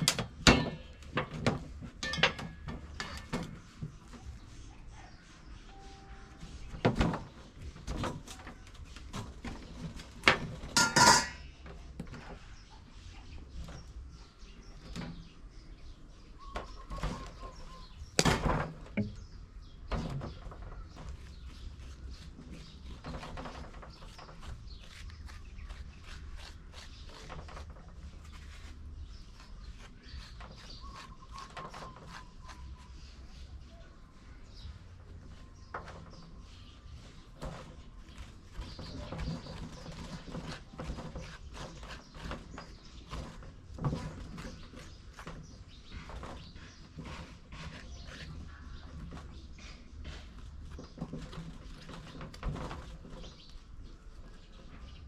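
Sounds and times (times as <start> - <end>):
knocks and clatter of food preparation: 0.0 - 4.4, 6.4 - 12.6, 13.4 - 33.4, 34.6 - 55.0
bird chirping: 0.0 - 55.0.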